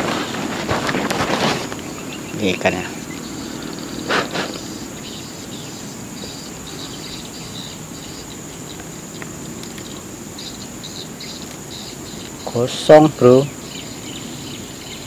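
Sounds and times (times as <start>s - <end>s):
background hiss: 0.0s - 15.0s
insects chirping: 0.0s - 15.0s.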